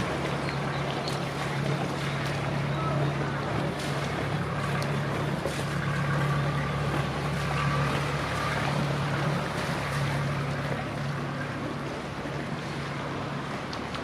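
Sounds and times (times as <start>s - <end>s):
motor boat engine humming: 0.0s - 14.0s.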